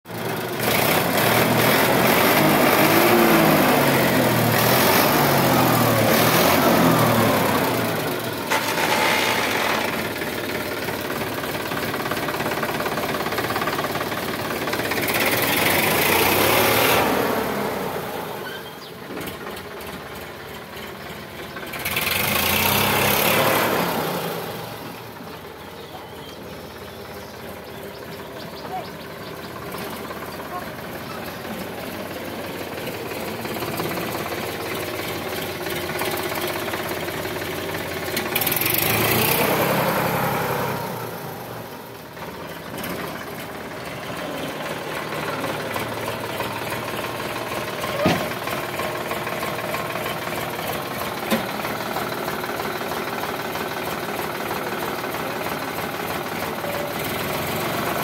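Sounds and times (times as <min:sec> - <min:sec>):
tractor diesel engine revving: 0:00.1 - 0:58.0.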